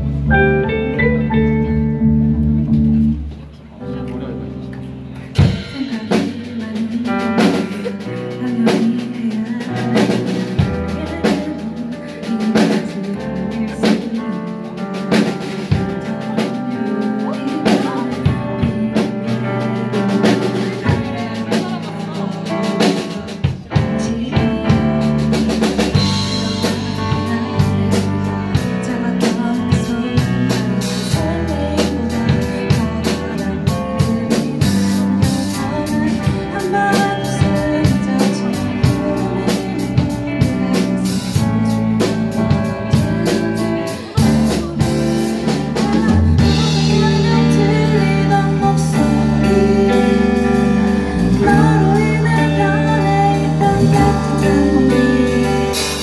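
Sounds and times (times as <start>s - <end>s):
live pop-rock band: 0.0s - 56.0s.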